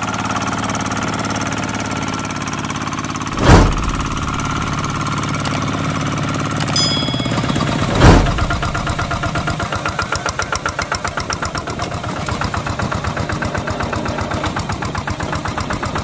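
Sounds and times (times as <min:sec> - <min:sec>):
diesel engine chugging: 0:00.0 - 0:16.0.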